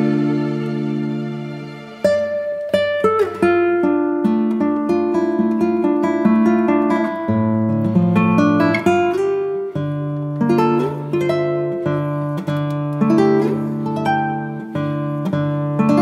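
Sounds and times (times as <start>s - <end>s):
acoustic guitar plucking: 0.0s - 16.0s.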